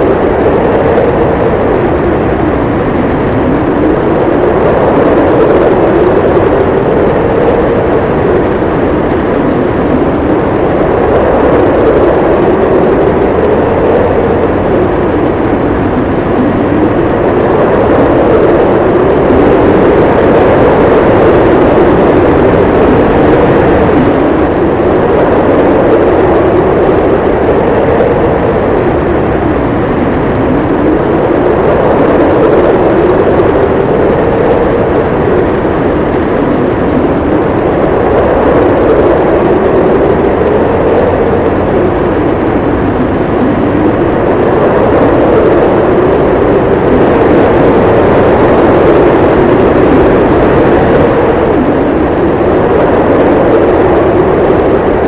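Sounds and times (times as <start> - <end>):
howling wind: 0.0 - 55.0.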